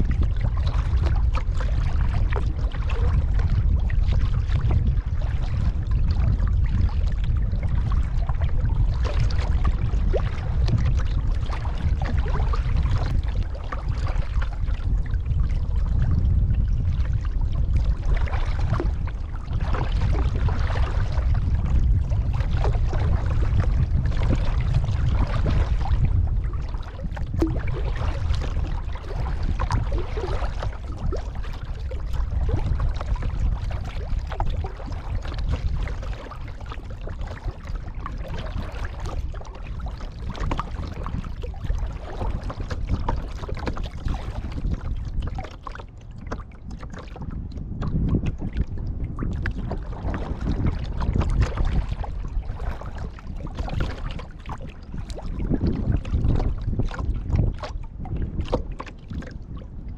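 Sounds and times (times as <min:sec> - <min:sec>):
paddle splashing in water: 0:00.0 - 0:59.6
wind rumble on microphone: 0:00.0 - 0:59.9.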